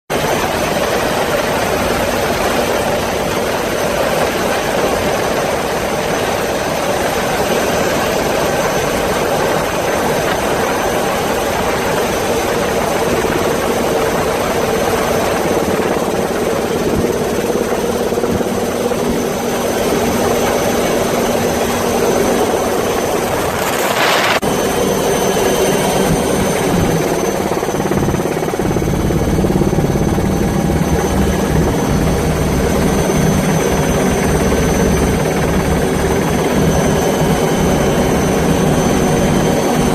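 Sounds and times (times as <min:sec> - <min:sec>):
helicopter rotor and engine: 0:00.1 - 0:39.9.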